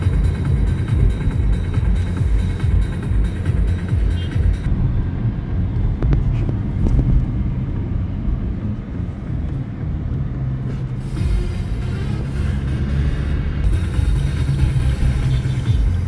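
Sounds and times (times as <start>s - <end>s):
car cabin road noise: 0.0s - 16.0s.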